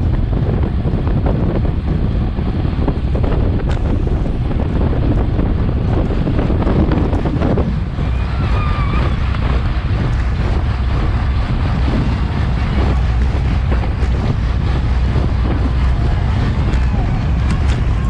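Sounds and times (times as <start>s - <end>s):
wind rumbling over microphone: 0.0s - 18.0s.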